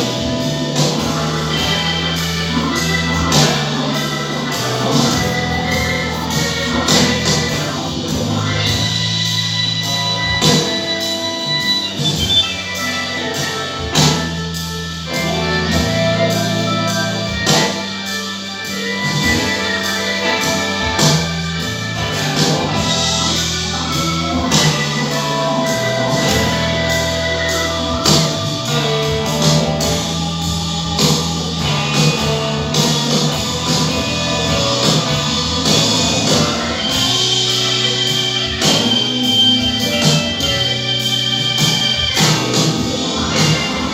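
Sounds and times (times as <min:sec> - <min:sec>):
music with steady beat: 0:00.0 - 0:43.9.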